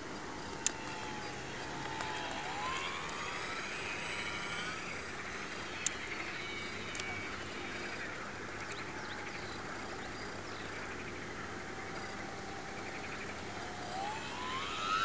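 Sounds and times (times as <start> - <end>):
model plane motor whining: 0.0 - 10.0, 10.7 - 15.0
bird calls: 0.7 - 15.0.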